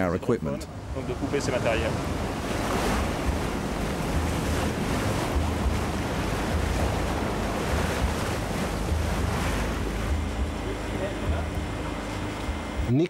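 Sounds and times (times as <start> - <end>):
waves splashing: 0.0 - 13.0
wind buffeting microphone: 0.7 - 12.8.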